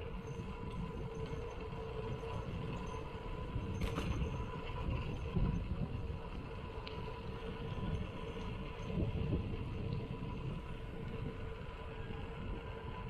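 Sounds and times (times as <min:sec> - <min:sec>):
bike tyres rumbling on concrete: 0:00.0 - 0:13.0.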